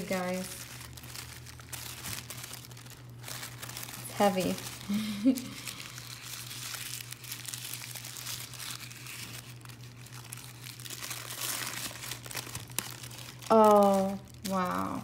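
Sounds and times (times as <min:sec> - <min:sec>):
wrapping crinkling and tearing: 0:00.0 - 0:15.0.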